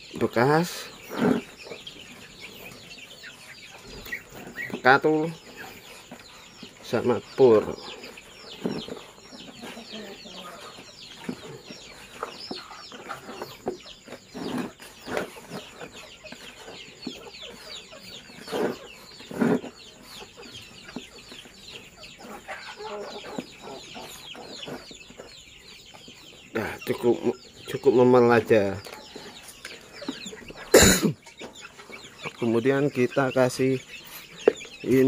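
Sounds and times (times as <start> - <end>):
chicken clucks: 0.0 - 35.0
chicks peeping: 0.0 - 35.0.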